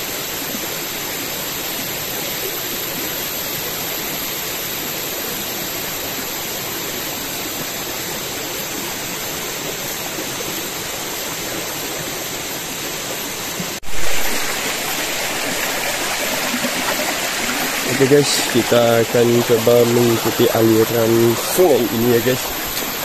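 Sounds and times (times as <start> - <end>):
stream flowing over stones: 0.1 - 23.0.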